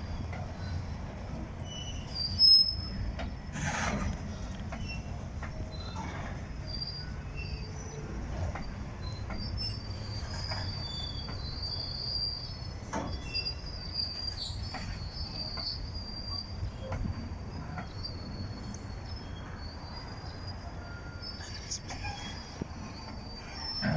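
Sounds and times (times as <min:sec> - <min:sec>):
train rumbling: 0:00.0 - 0:23.9
train wheels squealing on rails: 0:00.0 - 0:23.9.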